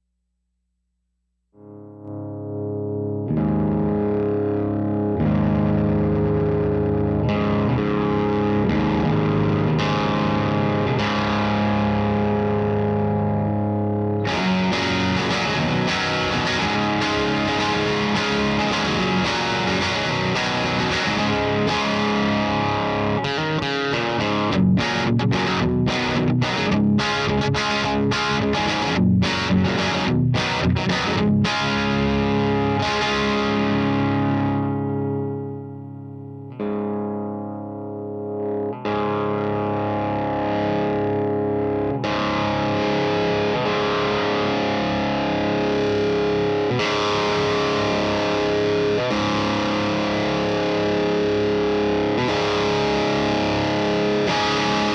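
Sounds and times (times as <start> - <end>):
overdriven electric guitar: 1.6 - 54.9.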